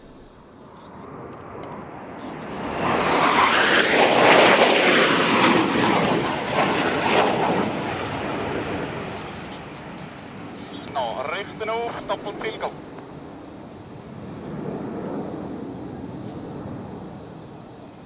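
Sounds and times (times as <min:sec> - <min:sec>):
aircraft engine passing: 0:00.0 - 0:18.0.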